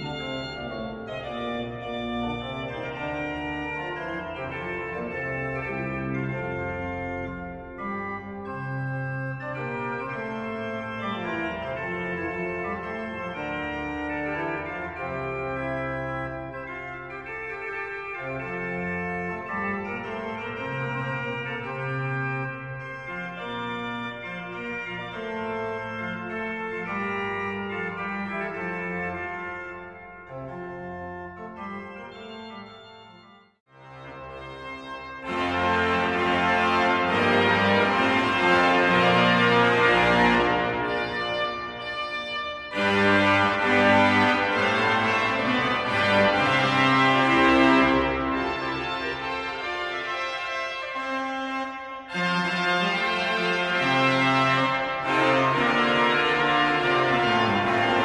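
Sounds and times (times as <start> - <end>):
pipe organ playing: 0.0 - 58.0.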